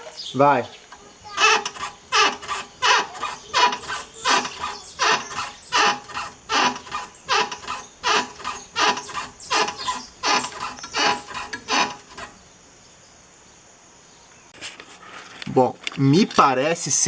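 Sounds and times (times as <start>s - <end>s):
car suspension squeaking: 0.8s - 12.6s, 14.6s - 16.6s.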